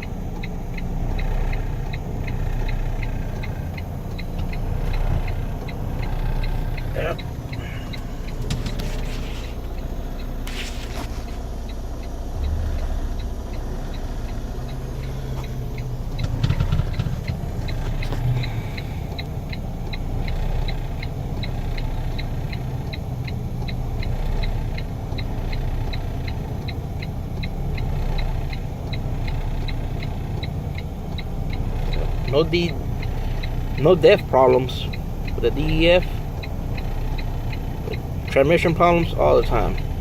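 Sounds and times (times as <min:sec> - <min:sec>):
diesel engine running: 0:00.0 - 0:40.0
steady ticking: 0:00.0 - 0:40.0.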